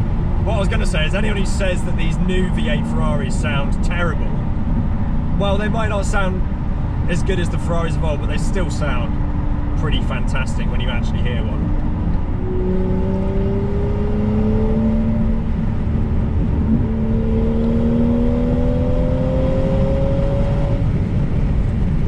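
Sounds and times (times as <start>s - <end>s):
car engine accelerating: 0.0s - 22.0s
road rumble: 0.0s - 22.0s.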